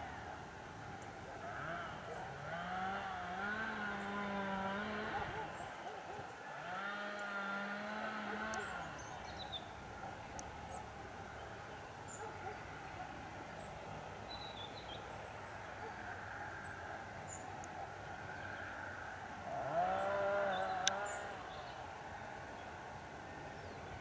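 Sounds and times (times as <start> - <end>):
drawn-out rising and falling call: 0.0 - 24.0
small birds chirping: 0.5 - 24.0.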